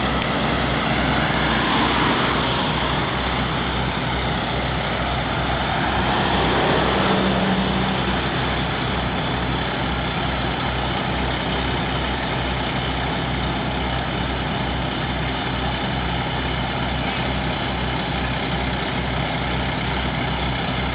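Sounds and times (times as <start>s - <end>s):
heavy diesel engine idling: 0.0s - 20.9s.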